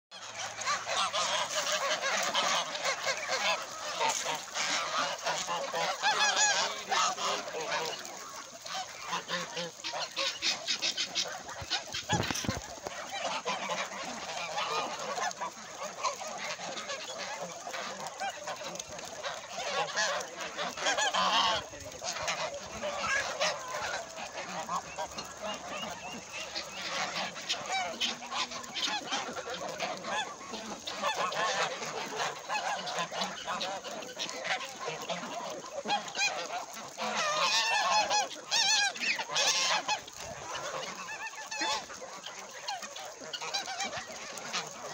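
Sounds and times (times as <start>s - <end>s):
ducks and chickens calling: 0.1s - 44.9s
geese honking: 0.1s - 44.9s.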